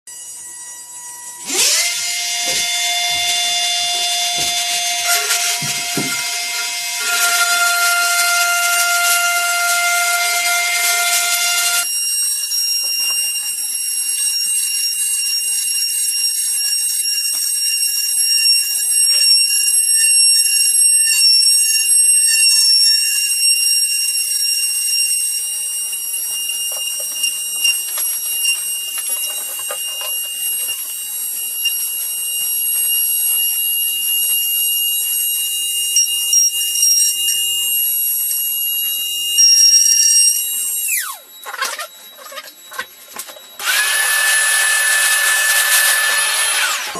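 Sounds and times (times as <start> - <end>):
router spindle whining: 0.1 - 46.9
crackle of cutter: 0.2 - 46.9.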